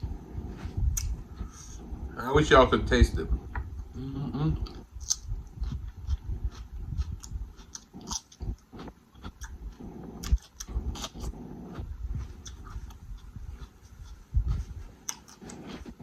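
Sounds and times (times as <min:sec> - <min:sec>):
person chewing food: 0:00.0 - 0:02.1, 0:03.6 - 0:16.0.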